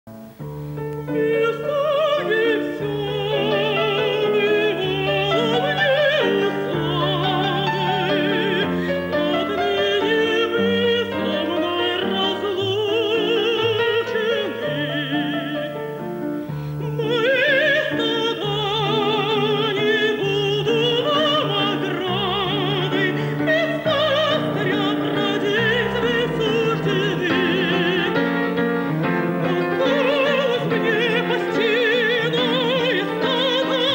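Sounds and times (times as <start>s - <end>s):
operatic singer with vibrato: 0.8s - 33.9s.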